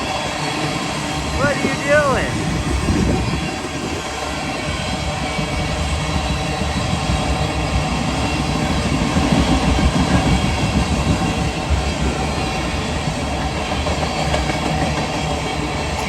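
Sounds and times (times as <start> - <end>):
steel wheels running over rails: 0.0 - 16.0.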